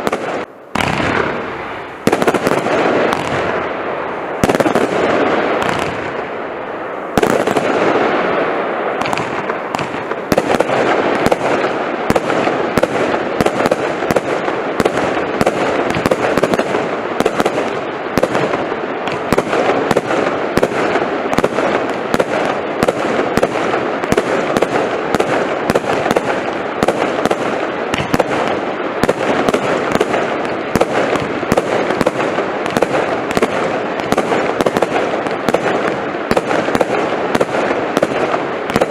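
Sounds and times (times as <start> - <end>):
firework sharp cracks: 0.0 - 38.9.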